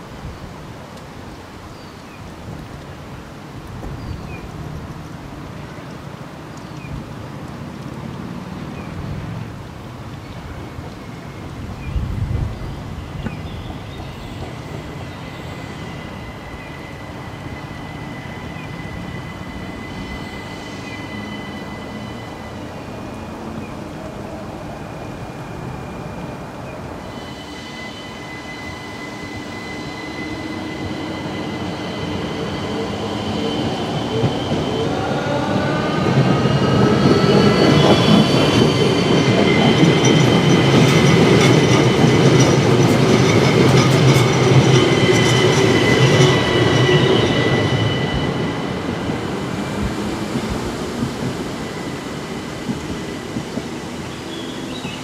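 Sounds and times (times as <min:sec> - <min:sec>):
electric train high whining: 0:00.0 - 0:55.0.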